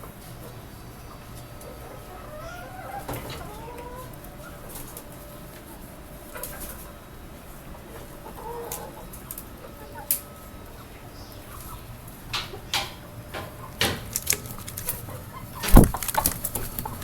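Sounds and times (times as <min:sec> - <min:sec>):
chickens clucking softly: 0:00.0 - 0:13.9.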